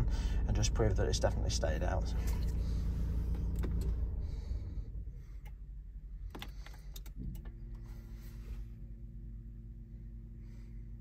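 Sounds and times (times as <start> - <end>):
low rumble in car cabin: 0.0 - 11.0.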